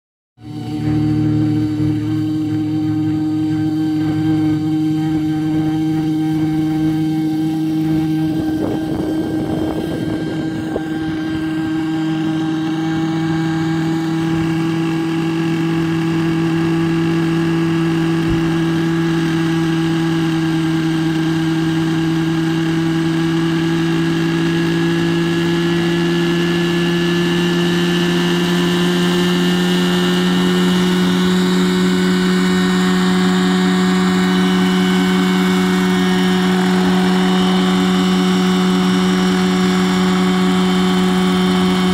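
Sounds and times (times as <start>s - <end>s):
model helicopter engine and rotor: 0.4s - 41.9s.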